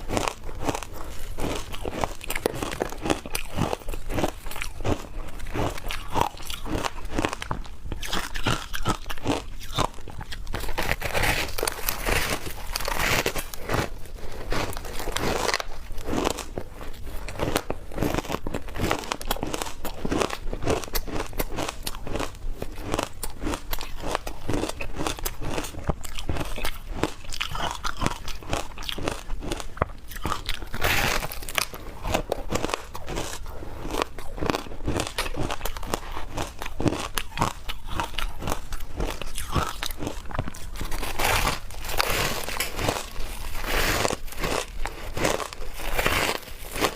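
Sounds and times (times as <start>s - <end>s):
person chewing shaved ice: 0.0s - 46.9s.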